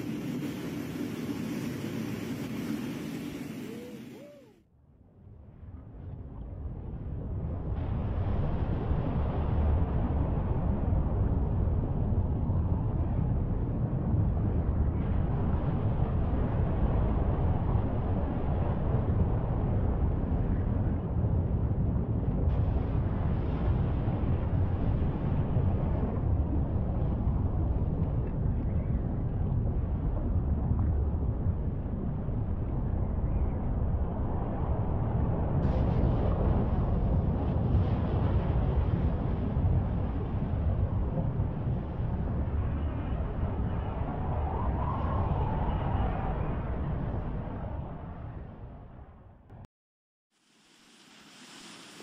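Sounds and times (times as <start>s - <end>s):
low rumbling noise: 0.0s - 49.7s
wind buffeting microphone: 5.8s - 49.4s.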